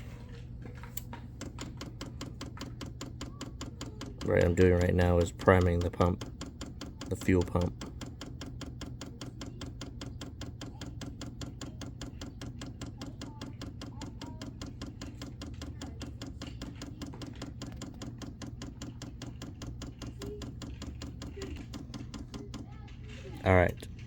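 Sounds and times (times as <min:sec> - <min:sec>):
fuel pump clicking: 0:00.8 - 0:24.0.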